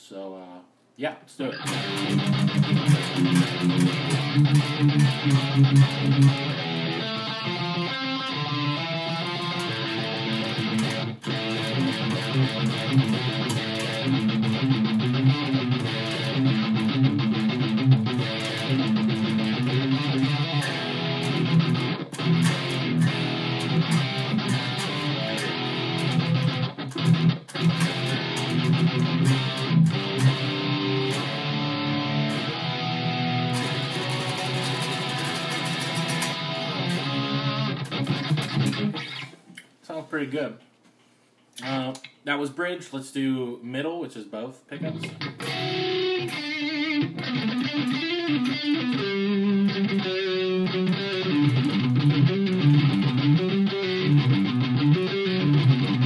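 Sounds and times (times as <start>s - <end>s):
electric guitar riffs and chords: 1.5s - 39.4s, 44.8s - 56.0s.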